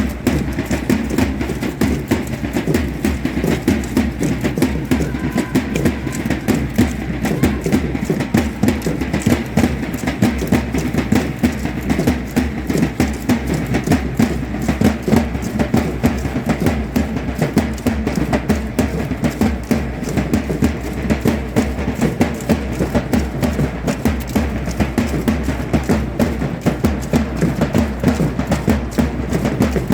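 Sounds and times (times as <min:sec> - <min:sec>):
drum and percussion beating: 0:00.0 - 0:29.9.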